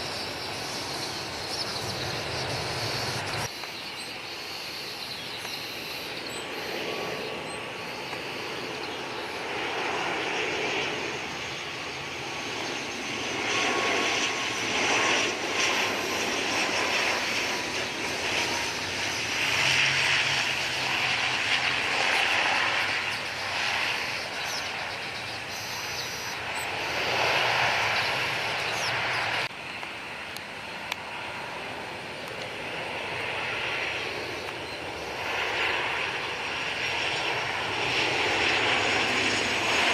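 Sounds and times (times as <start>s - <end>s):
jet landing: 0.0s - 39.9s
turboprop engines running: 0.0s - 39.9s.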